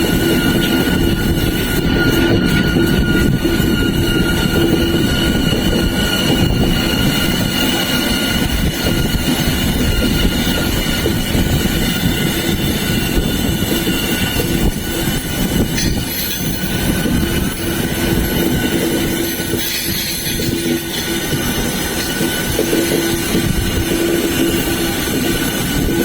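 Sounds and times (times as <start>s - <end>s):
train rumbling: 0.0s - 26.0s
train wheels squealing: 0.0s - 26.0s.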